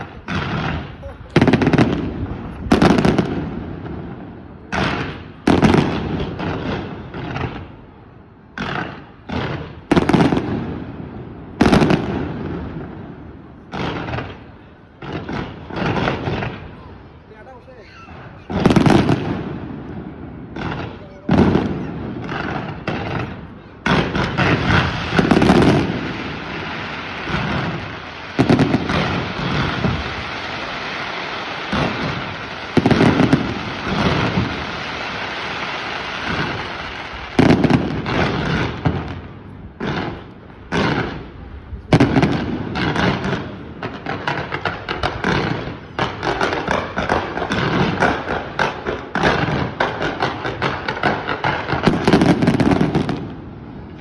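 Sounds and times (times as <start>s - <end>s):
fireworks bangs: 0.0s - 54.0s
fireworks crackling hiss: 0.0s - 54.0s.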